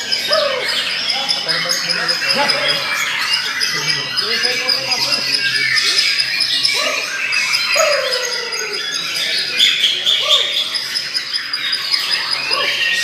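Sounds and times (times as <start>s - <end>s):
birds singing: 0.0s - 13.0s.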